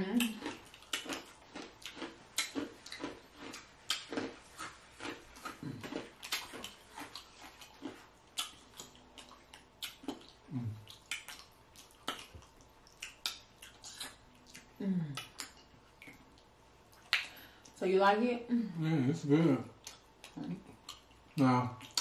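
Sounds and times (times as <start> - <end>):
chewing and lip-smacking: 0.2 - 17.8, 19.7 - 22.0.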